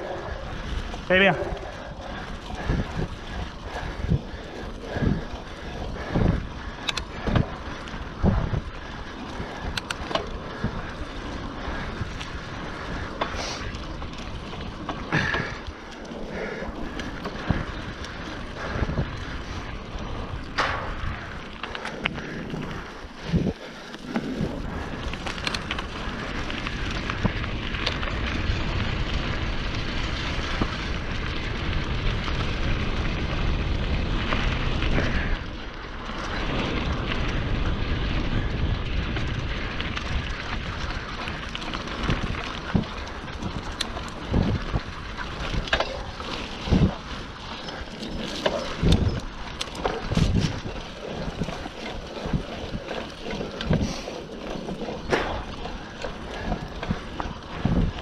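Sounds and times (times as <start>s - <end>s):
wind on microphone: 0.0s - 15.6s, 16.3s - 58.0s
bike knocks and rattles: 0.0s - 58.0s
bike tyre noise on trail: 0.0s - 58.0s.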